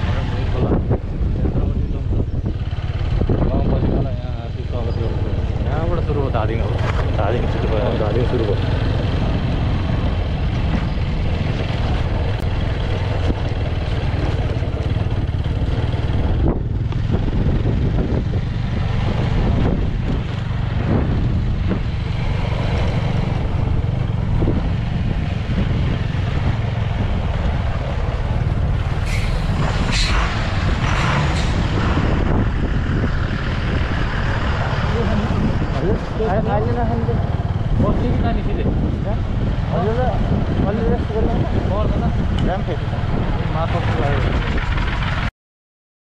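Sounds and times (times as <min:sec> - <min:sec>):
vehicle engine and road rumble: 0:00.0 - 0:45.3
wind buffeting microphone: 0:00.0 - 0:45.3.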